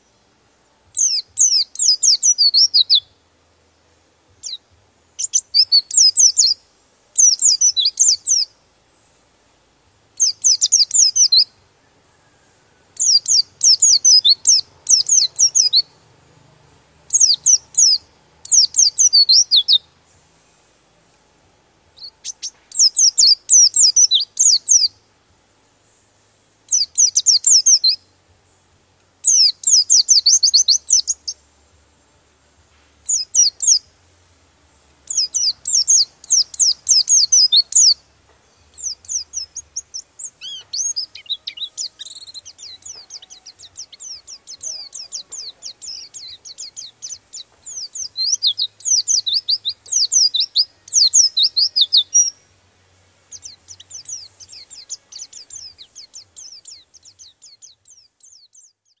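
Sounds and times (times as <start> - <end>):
bird twittering song: 0.0 - 3.2, 4.3 - 8.6, 10.1 - 16.2, 16.9 - 20.7, 21.9 - 25.2, 25.8 - 31.6, 33.0 - 59.0.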